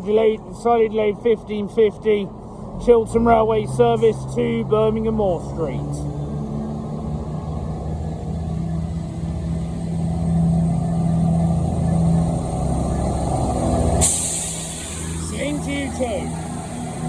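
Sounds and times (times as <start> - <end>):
diesel train engines droning: 0.0 - 17.0.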